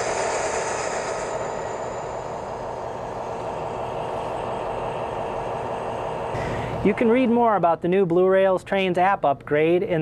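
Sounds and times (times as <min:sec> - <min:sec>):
diesel locomotive engine sound effect: 0:00.0 - 0:08.1.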